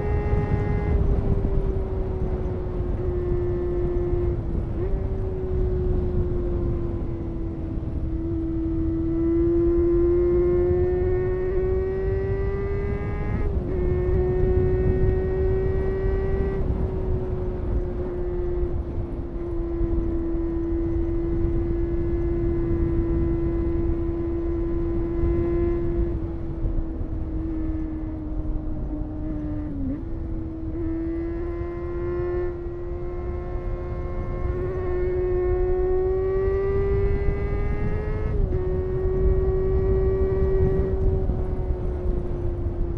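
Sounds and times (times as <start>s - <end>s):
motorcycle engine at high revs: 0.0s - 42.9s.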